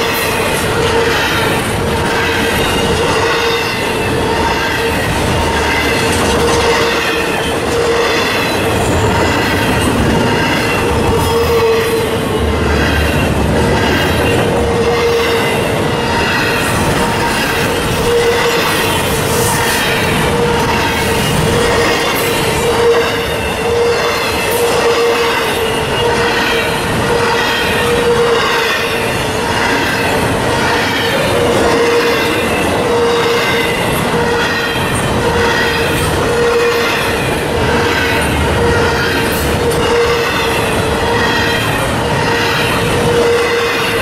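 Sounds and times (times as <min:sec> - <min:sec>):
train wheels rumbling and rattling: 0:00.0 - 0:44.0.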